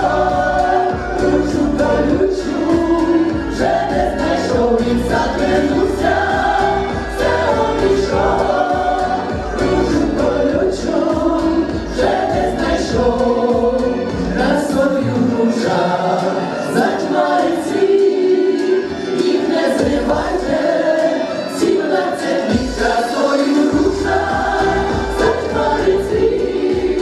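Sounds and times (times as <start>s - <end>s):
accordion: 0.0s - 27.0s
women singing together: 0.0s - 27.0s.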